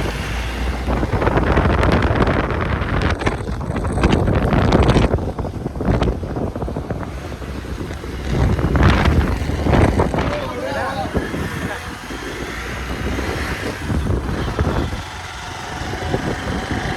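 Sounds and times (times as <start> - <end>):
motorcycle engine running: 0.0 - 16.9
wind buffeting microphone: 0.0 - 16.9.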